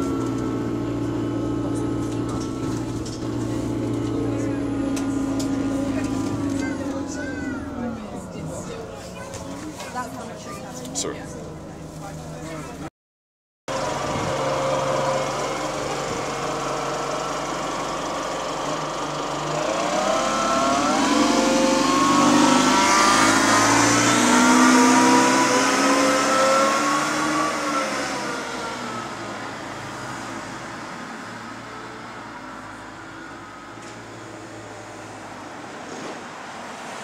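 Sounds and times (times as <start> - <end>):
bus engine accelerating: 0.0 - 12.9, 13.7 - 37.0.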